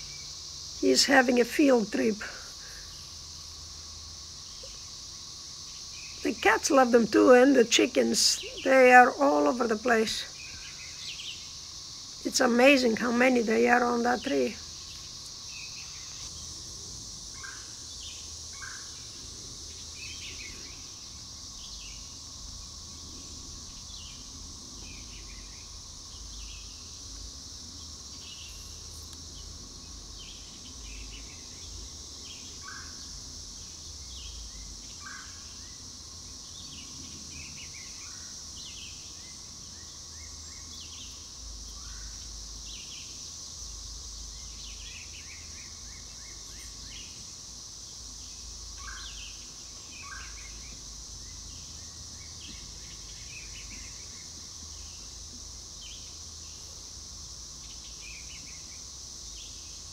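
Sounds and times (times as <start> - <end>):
cicadas droning: 0.0 - 59.9.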